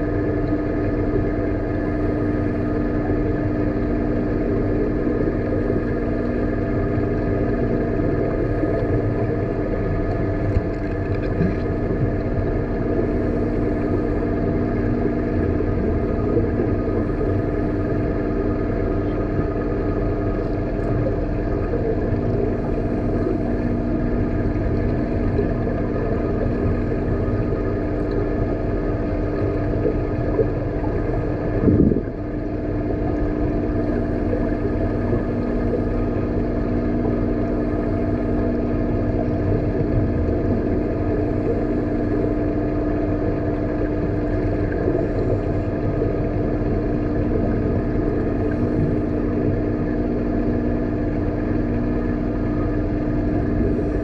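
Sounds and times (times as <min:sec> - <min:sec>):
machinery hum with droning tones: 0:00.0 - 0:54.0.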